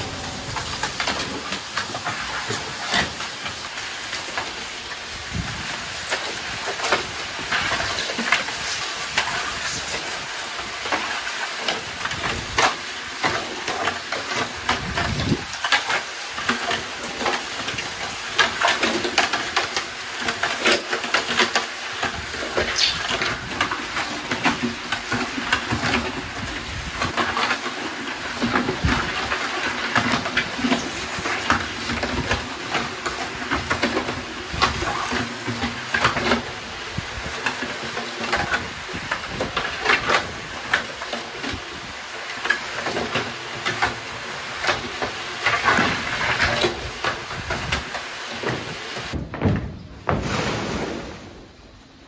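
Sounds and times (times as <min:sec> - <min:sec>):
concrete mixer churning gravel: 0:00.0 - 0:49.2.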